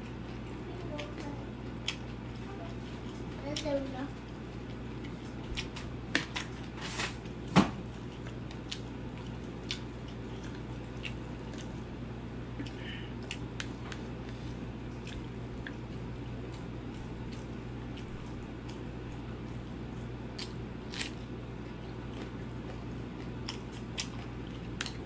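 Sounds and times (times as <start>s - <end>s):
wet chewing: 0.0s - 6.6s, 7.9s - 25.0s.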